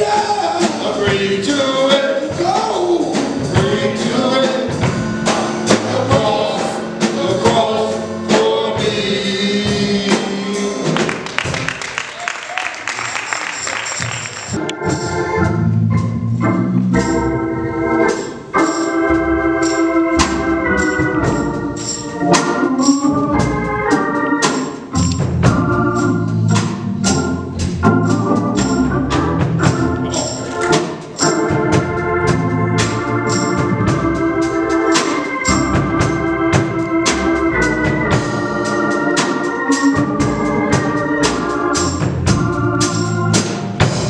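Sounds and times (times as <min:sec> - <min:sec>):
percussion beat: 0:00.0 - 0:16.2, 0:18.0 - 0:44.0
organ playing chords: 0:00.0 - 0:44.0.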